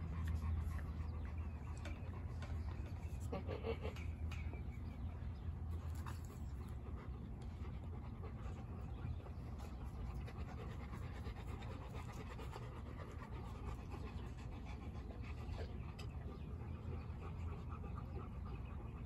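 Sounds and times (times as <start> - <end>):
dog panting: 0.0 - 19.0
low steady rumble: 0.0 - 19.0.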